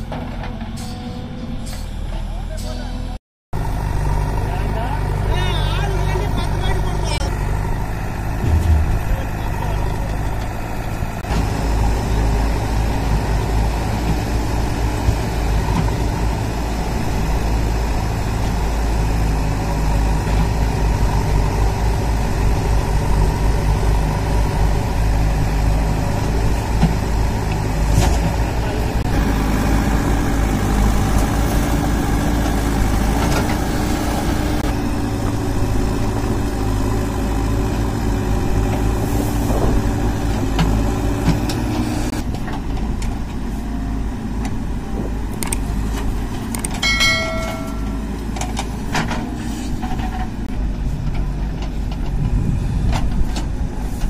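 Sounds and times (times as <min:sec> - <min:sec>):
diesel engines rumbling: 0:00.0 - 0:54.0.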